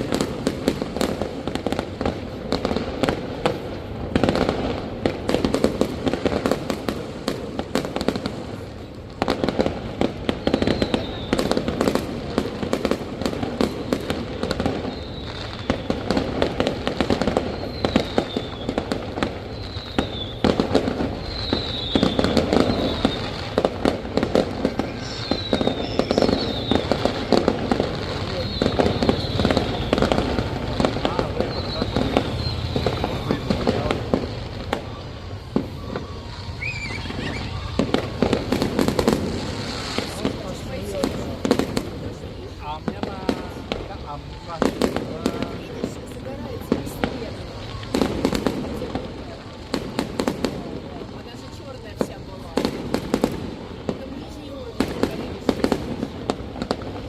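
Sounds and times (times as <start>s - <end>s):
falling firework whistles: 0.0s - 57.0s
fireworks crackling bangs: 0.0s - 57.0s.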